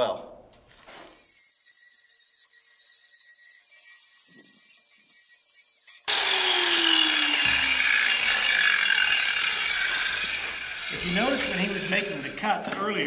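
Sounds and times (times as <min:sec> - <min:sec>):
angle grinder grinding steel: 0:00.9 - 0:12.7.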